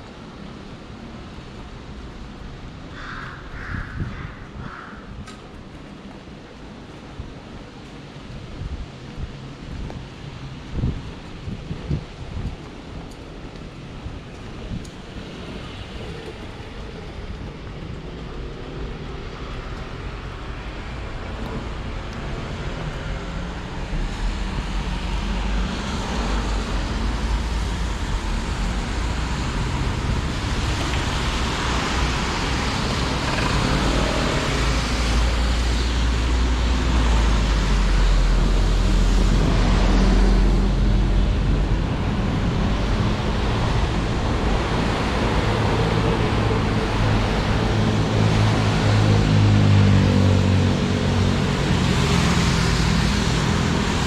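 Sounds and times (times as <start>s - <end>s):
vehicle engine rumble: 5.2s - 54.0s.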